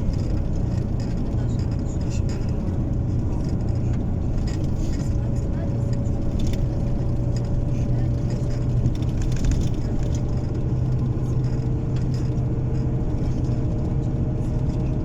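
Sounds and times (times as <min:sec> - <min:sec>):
bus engine and road drone: 0:00.0 - 0:15.0.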